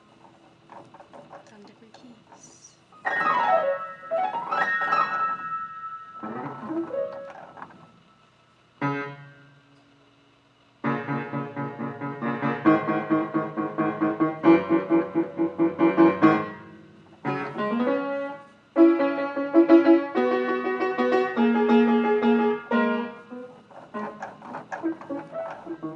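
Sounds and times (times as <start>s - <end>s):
piano notes and chords: 3.0s - 8.1s, 8.8s - 9.7s, 10.8s - 25.9s.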